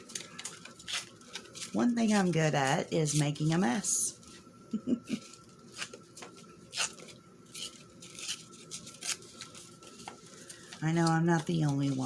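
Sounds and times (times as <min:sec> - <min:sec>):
paper rustling: 0:00.0 - 0:04.5, 0:05.1 - 0:12.0.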